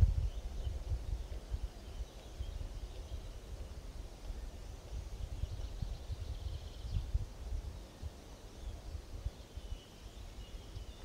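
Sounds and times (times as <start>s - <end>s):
birds chirping and trilling: 0.0s - 11.0s
wind rumble on microphone: 0.0s - 11.0s.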